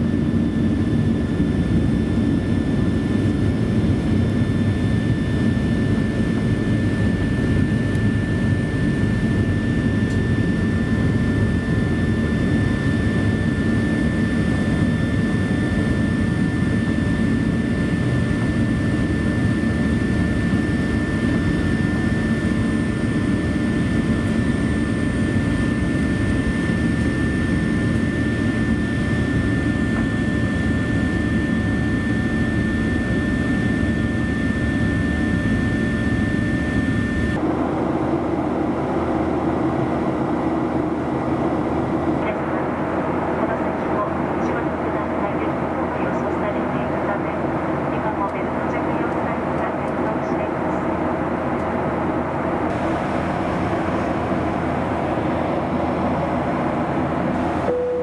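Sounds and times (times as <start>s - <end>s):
aircraft cabin engine noise: 0.0s - 58.0s.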